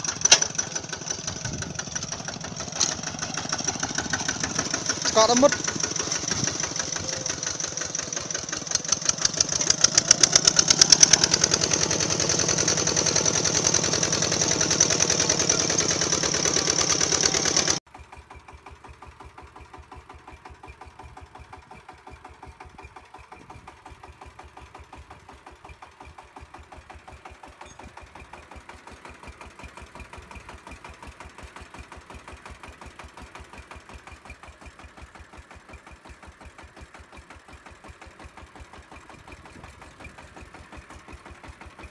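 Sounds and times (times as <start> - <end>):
small engine knocking: 0.0 - 41.9.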